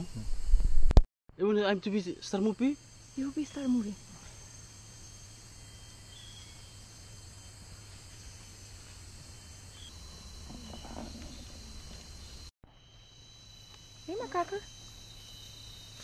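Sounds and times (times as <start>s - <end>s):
insects chorus: 0.0s - 0.8s, 1.4s - 16.0s
stronger insect tone: 0.0s - 16.0s.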